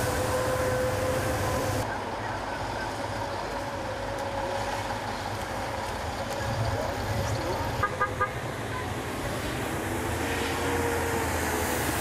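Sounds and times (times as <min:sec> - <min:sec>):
heavy truck engines running: 0:00.0 - 0:12.0
street traffic noise: 0:00.0 - 0:12.0.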